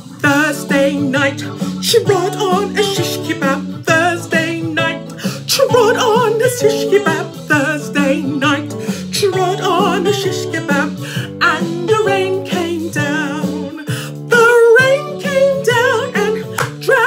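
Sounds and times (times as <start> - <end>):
instrumental backing music: 0.0 - 17.0
woman singing blues: 0.0 - 17.0.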